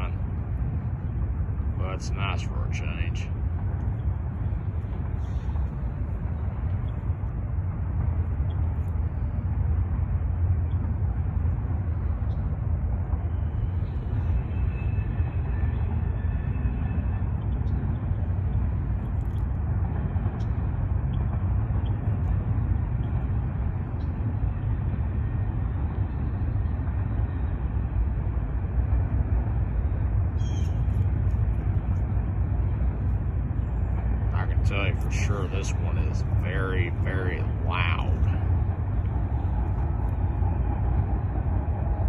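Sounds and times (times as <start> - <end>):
train cars rumbling on rails: 0.0 - 42.0.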